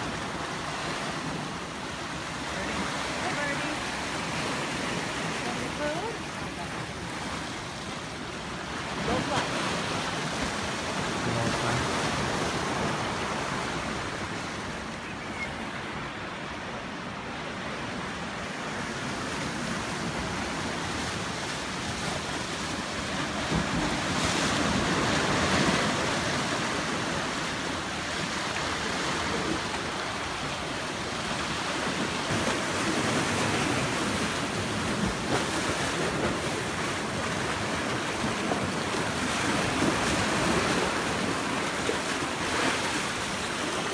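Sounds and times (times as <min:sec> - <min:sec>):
ocean surf breaking between rocks: 0:00.0 - 0:43.9.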